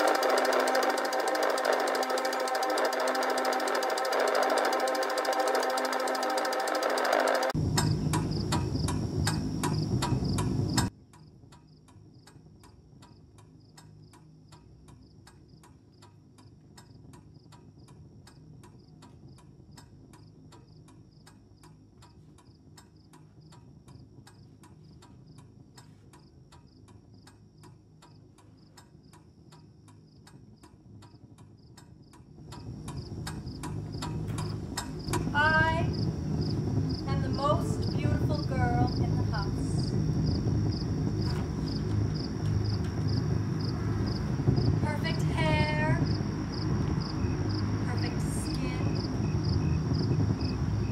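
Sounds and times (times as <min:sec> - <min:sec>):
crickets chirping: 0:00.0 - 0:50.9
even ticking: 0:00.0 - 0:50.9
low noise: 0:00.0 - 0:50.9
rhythmic mechanical noise: 0:00.0 - 0:50.9.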